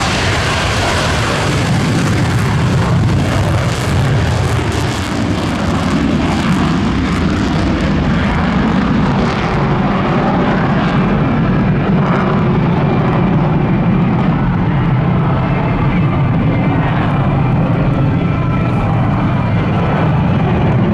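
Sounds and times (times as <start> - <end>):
jet fighter engine roar: 0.0 - 20.9.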